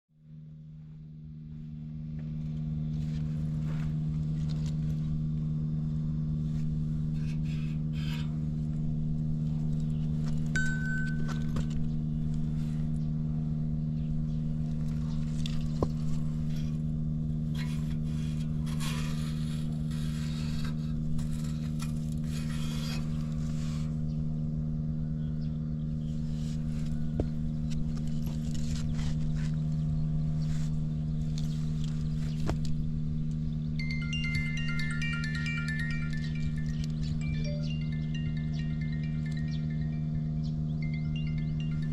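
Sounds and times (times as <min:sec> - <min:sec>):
small engine idling: 0:00.6 - 0:41.9.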